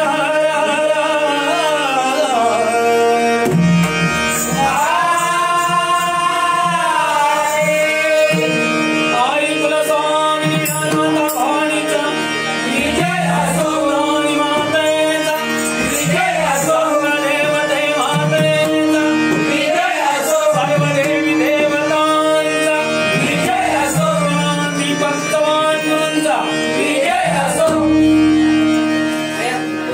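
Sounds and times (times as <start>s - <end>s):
held accompanying notes: 0.0s - 29.9s
person singing devotional song: 0.0s - 29.9s.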